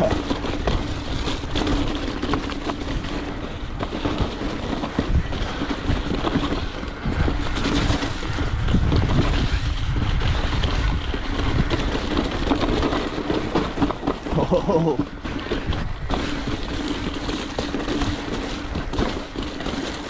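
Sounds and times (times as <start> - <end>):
bike rattling: 0.0 - 20.0
bike tyres on dirt and rock: 0.0 - 20.0
wind on microphone: 0.0 - 20.0.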